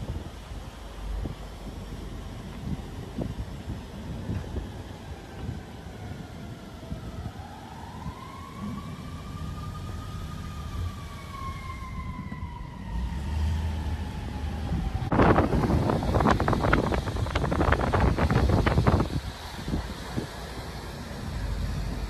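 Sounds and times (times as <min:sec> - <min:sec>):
low rumble of road traffic: 0:00.0 - 0:22.0
emergency vehicle siren wailing: 0:02.6 - 0:22.0.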